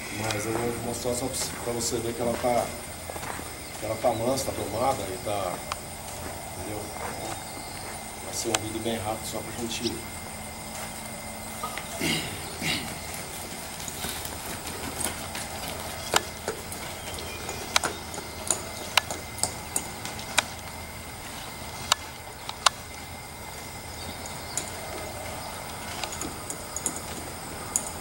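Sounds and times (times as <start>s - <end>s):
horse hooves and tack clicking: 0.0s - 28.0s
steady background hiss: 0.0s - 28.0s.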